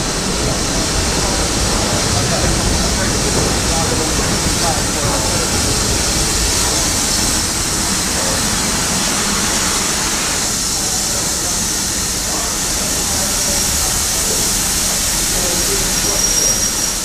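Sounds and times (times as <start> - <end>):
locomotive rumble: 0.0 - 17.0
steam hissing: 0.0 - 17.0.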